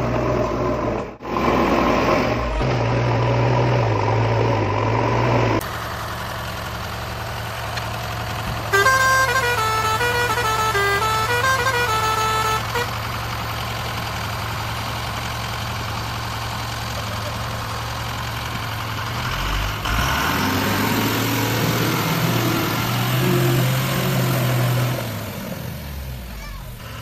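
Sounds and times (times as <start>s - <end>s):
truck engine idling: 4.2s - 27.0s.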